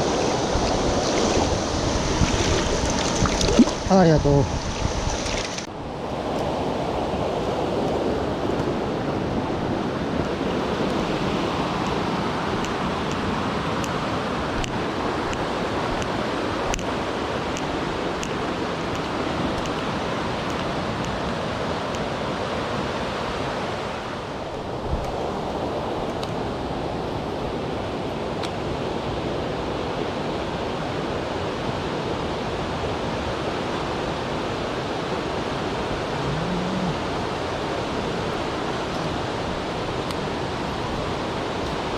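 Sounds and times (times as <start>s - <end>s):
mountain stream rushing: 0.0s - 41.9s.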